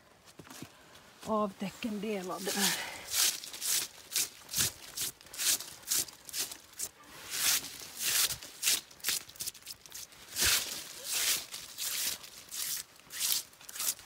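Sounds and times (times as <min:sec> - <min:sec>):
leaves being swept off stone: 0:02.2 - 0:14.0.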